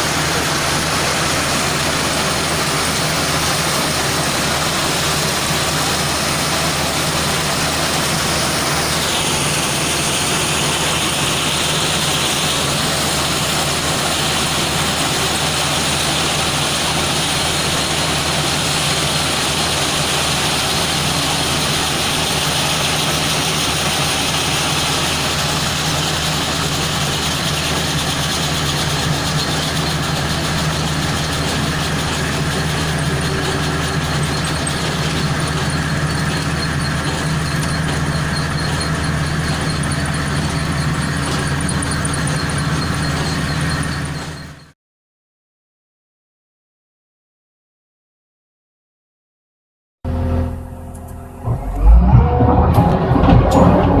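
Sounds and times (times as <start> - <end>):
diesel engine humming: 0.0 - 44.7, 50.1 - 54.0.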